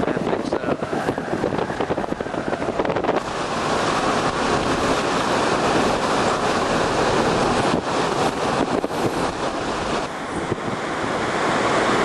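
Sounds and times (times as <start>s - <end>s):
choppy storm water: 0.0s - 12.0s
strong wind buffeting microphone: 0.0s - 12.0s.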